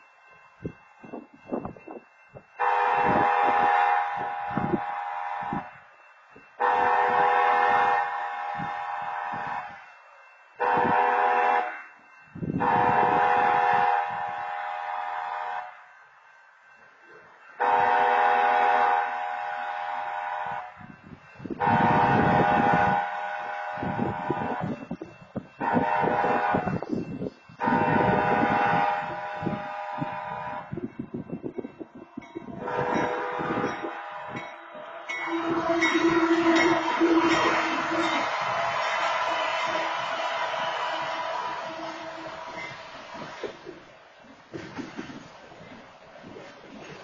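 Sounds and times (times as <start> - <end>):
locomotive horn blasts: 2.6 - 5.8, 6.6 - 9.9, 10.6 - 15.9, 17.6 - 43.7.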